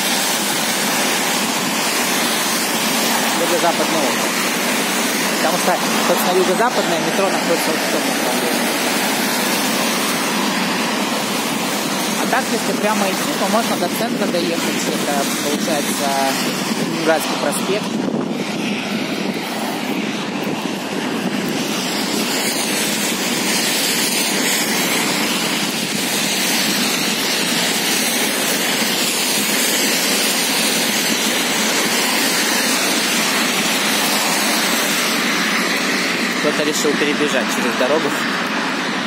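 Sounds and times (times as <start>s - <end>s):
tyres swishing on wet road: 0.0s - 17.8s, 19.0s - 39.0s.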